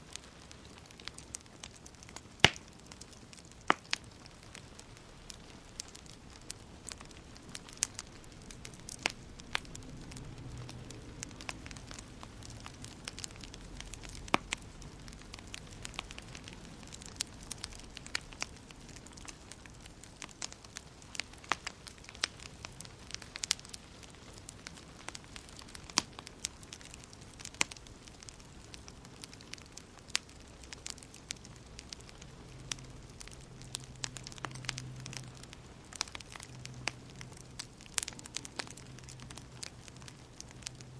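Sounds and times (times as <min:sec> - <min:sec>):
hiss and rumble of flames: 0:00.0 - 0:40.9
wood fire crackling and popping: 0:00.0 - 0:40.9.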